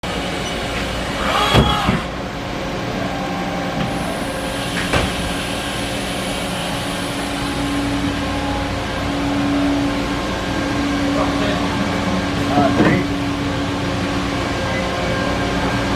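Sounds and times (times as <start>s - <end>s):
machining center humming: 0.0s - 15.9s
steady low tone: 2.1s - 15.9s.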